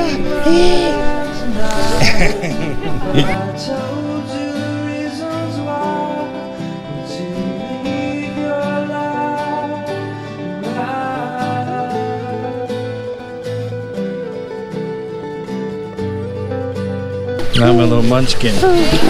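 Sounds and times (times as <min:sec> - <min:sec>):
country acoustic guitar music: 0:00.0 - 0:19.0.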